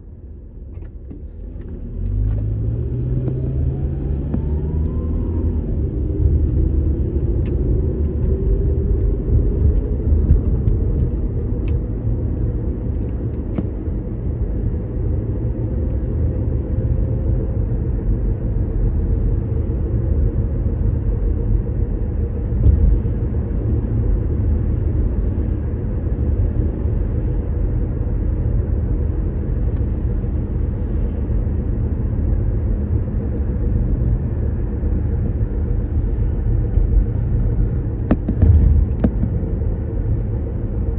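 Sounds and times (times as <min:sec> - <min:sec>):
car tyre and engine rumble: 0:00.0 - 0:40.9.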